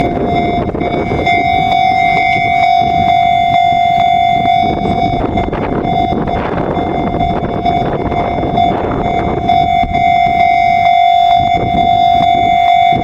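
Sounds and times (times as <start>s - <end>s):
level crossing bell dinging: 0.0s - 13.0s
low rumble: 0.0s - 13.0s.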